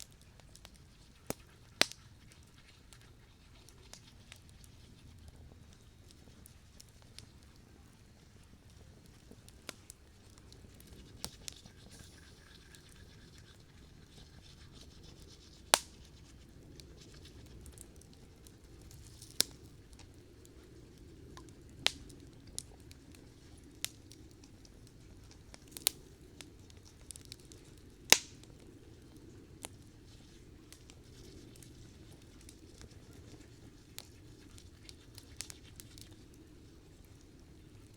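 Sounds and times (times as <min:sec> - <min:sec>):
campfire crackling and popping: 0:00.0 - 0:37.9
low fire rumble: 0:00.0 - 0:37.9.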